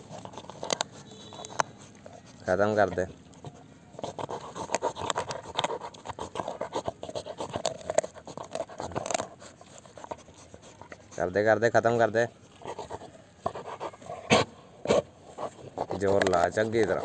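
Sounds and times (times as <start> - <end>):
clicking and scratching on hard shell: 0.0 - 11.3, 12.5 - 17.0.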